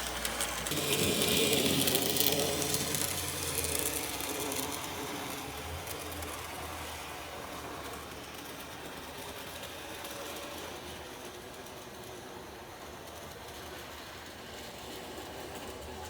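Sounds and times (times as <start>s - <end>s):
model train whirr and rattle: 0.0s - 16.0s.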